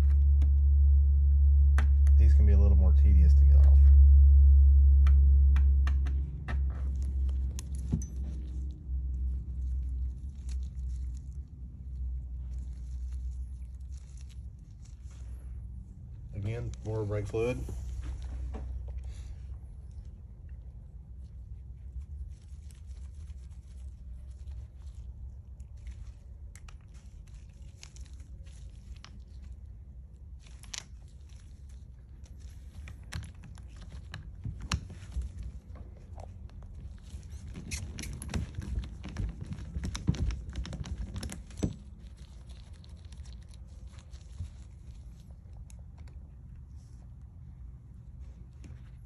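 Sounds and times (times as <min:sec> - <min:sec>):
low rumble: 0:00.0 - 0:49.0
steady low hum: 0:00.0 - 0:49.0.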